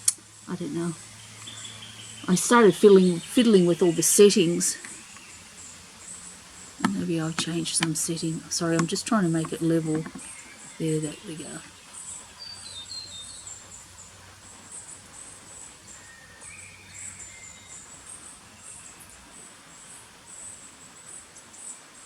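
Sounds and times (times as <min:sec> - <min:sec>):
descending bird notes: 0:00.0 - 0:22.0.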